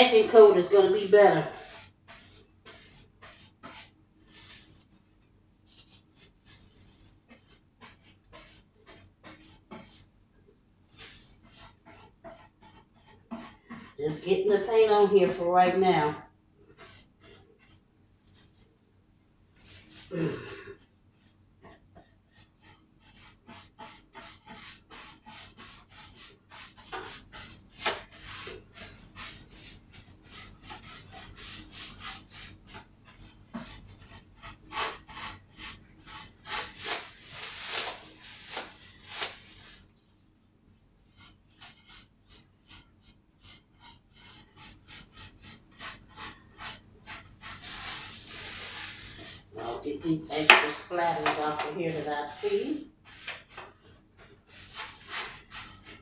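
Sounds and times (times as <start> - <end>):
paintbrush strokes on wood: 0.0 - 10.1, 10.8 - 18.7, 19.5 - 40.4, 41.0 - 56.0.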